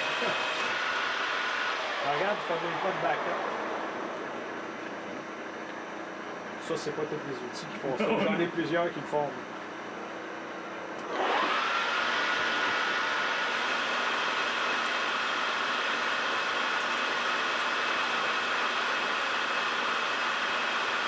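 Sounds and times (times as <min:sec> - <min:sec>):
lathe machine whine: 0:00.0 - 0:07.6, 0:09.4 - 0:21.0.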